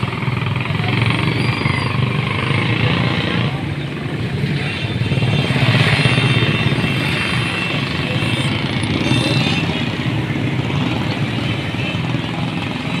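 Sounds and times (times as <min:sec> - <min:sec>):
motorcycle and rickshaw engines passing: 0:00.0 - 0:13.0.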